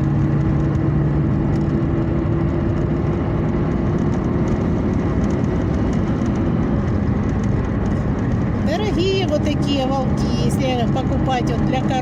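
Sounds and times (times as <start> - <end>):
car driving heard from inside: 0.0 - 12.0.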